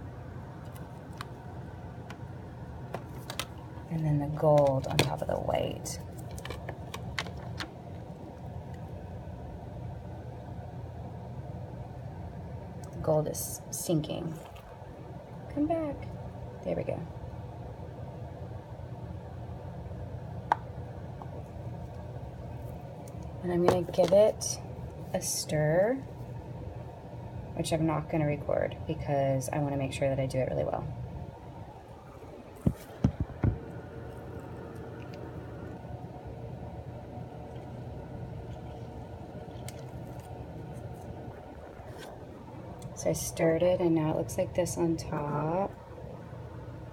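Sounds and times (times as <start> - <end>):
low mechanical hum: 0.0 - 46.9
low room rumble: 0.0 - 46.9.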